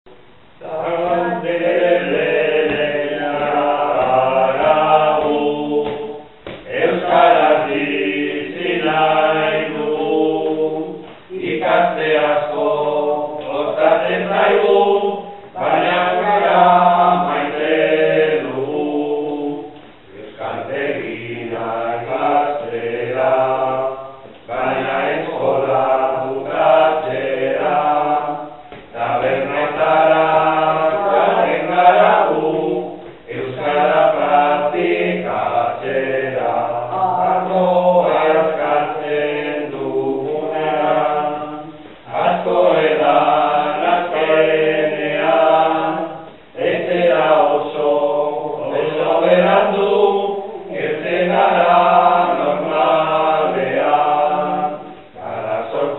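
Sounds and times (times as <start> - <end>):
group of voices singing: 0.1 - 55.9.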